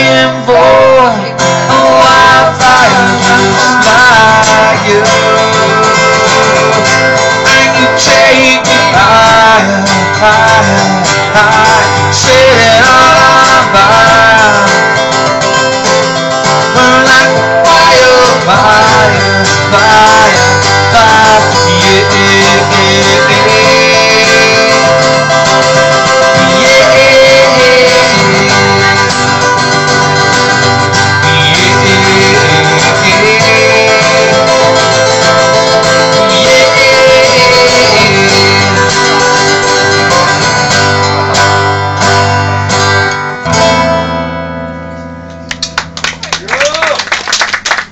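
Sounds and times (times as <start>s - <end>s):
person singing: 0.0s - 15.3s, 16.5s - 40.5s
acoustic guitars strumming: 0.0s - 46.9s.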